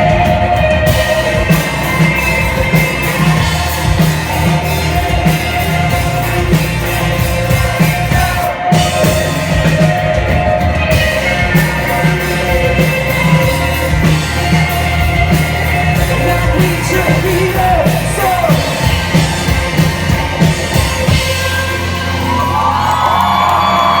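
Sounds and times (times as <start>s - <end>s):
crowd shouting and whooping: 0.0s - 24.0s
live rock band playing: 0.0s - 24.0s.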